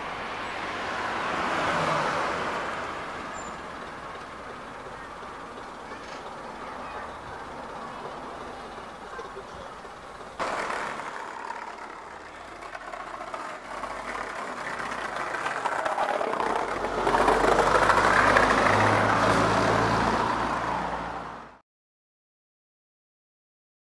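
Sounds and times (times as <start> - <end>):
bus diesel engine: 0.0 - 21.6
road noise: 0.0 - 21.6.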